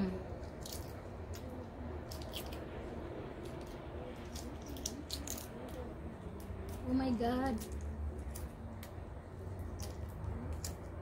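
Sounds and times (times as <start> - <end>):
steady low hum: 0.0 - 11.0
egg shell crackling: 0.3 - 11.0.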